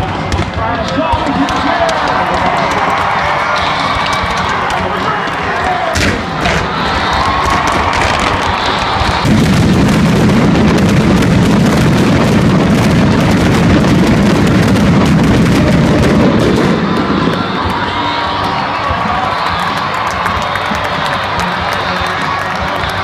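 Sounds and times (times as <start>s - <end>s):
fireworks bangs: 0.0s - 21.4s.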